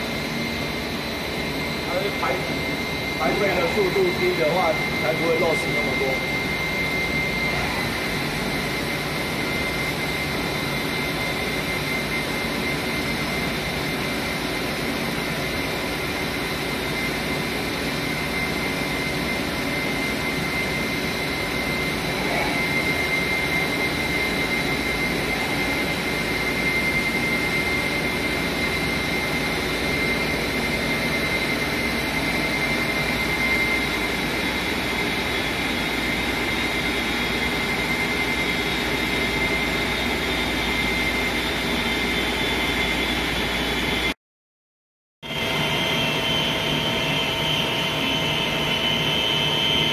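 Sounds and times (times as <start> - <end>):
machine drone with whine: 0.0 - 44.2, 45.2 - 49.9.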